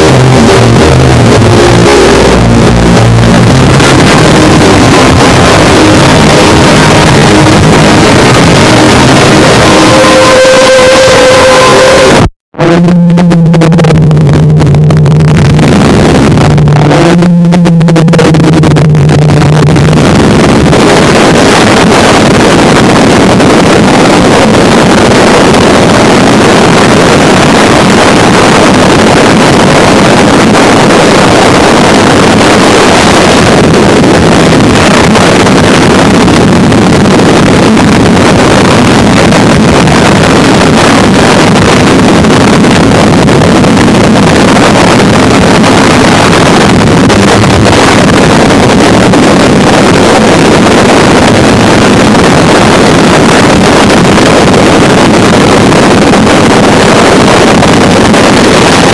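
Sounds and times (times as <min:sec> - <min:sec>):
harsh noise music: 0:00.0 - 0:58.9.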